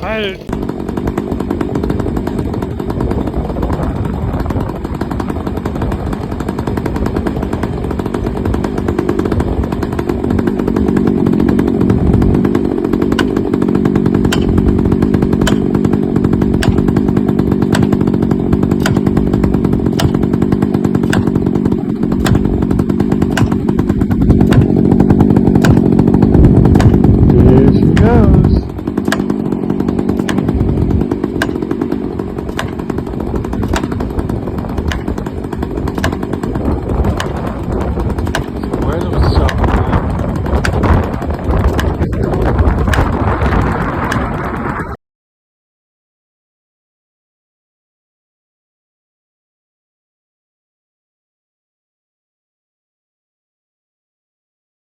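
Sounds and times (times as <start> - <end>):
chainsaw idling: 0.0 - 44.8.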